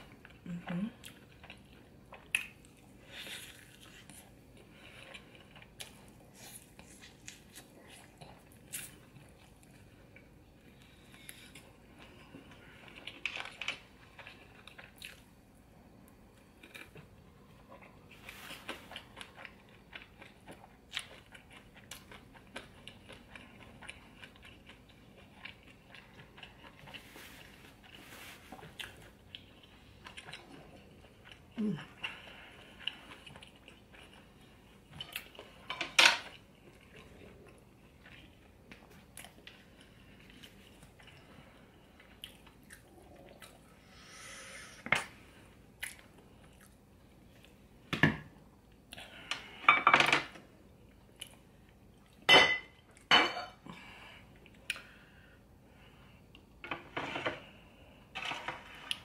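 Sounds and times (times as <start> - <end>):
chewing and wet mouth sounds: 0.1 - 43.9, 45.0 - 47.7, 50.8 - 53.1.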